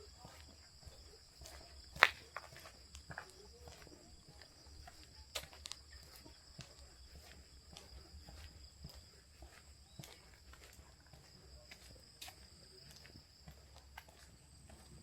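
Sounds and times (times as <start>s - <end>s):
footsteps on a path: 0.0s - 15.0s
high-pitched insect chorus: 0.0s - 15.0s.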